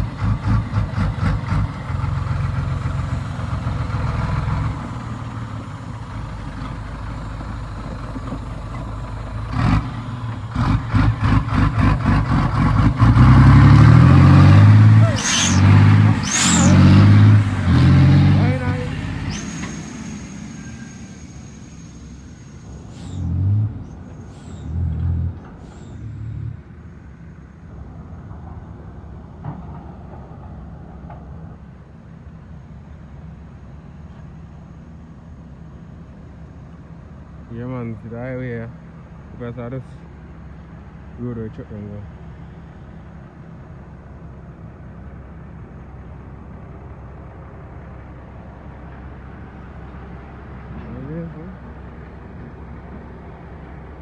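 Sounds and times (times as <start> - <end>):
heavy diesel truck engine: 0.0 - 54.0
road noise: 0.0 - 54.0.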